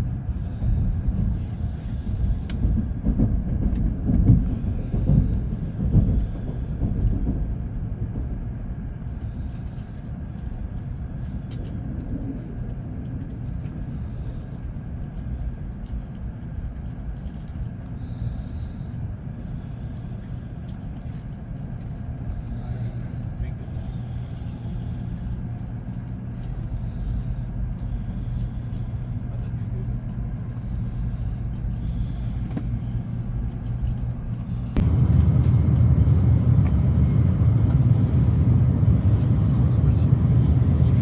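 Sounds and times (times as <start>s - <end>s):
moving train rumble: 0.0s - 41.0s.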